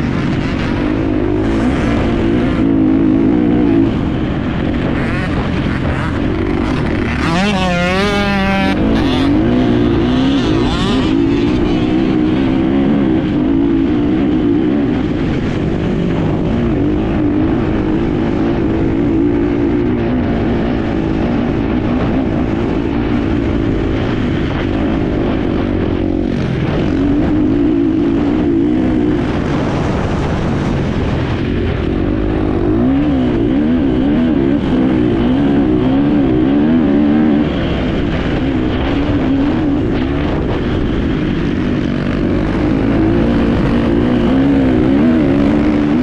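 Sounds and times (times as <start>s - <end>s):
motorcycle engine running: 0.0s - 46.0s
wind rush: 0.0s - 46.0s.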